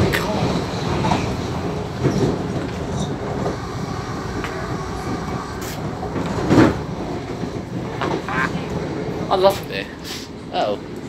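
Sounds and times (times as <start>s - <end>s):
train carriage bump: 0.0s - 10.0s
train wheels rumbling on track: 0.0s - 11.0s.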